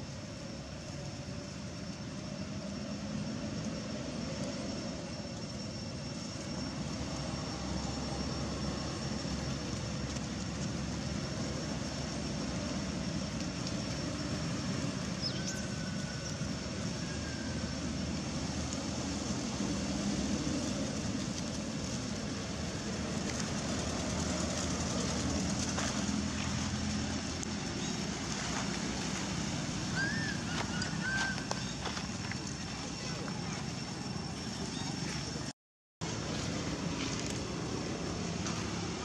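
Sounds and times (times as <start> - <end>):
outdoor rumble and hiss: 0.0 - 39.0.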